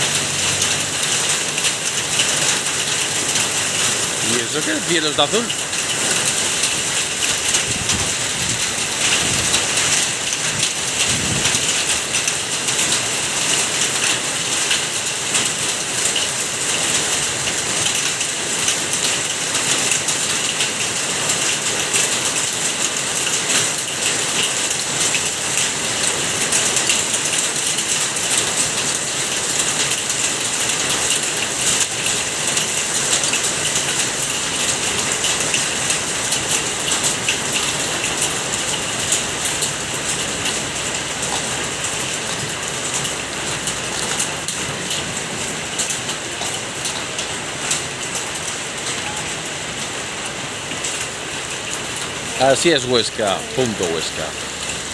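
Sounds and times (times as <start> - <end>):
rain and hail on hard surfaces: 0.0 - 54.9.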